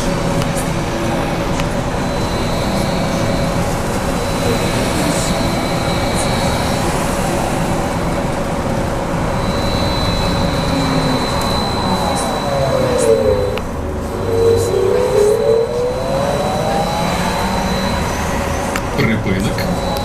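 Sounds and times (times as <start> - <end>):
bus rolling and road noise: 0.0 - 20.0
high electric whine: 0.0 - 20.0.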